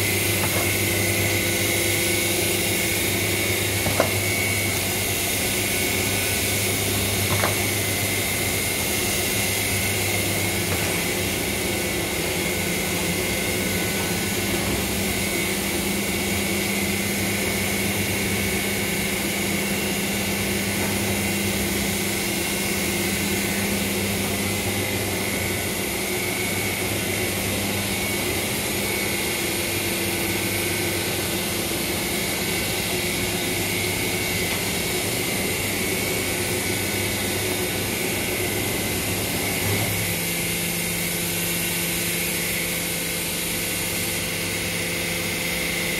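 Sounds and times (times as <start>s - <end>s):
machinery mechanical hum: 0.0s - 45.9s.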